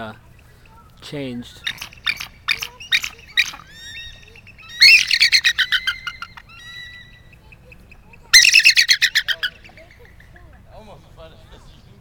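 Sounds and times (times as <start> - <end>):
eagle calling: 0.0 - 11.0.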